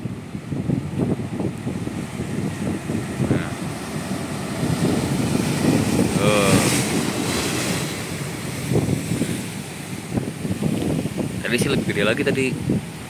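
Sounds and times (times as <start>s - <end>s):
sea waves breaking on rocks: 0.0s - 13.0s
wind buffeting microphone: 0.0s - 13.0s.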